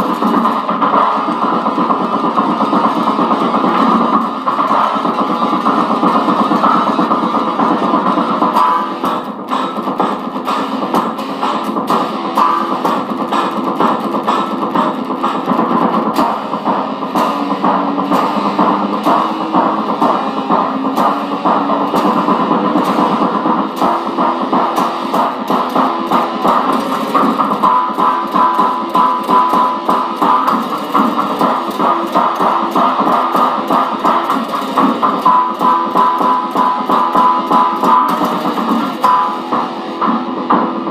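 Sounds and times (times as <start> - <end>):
electric guitar single notes: 0.0 - 40.9.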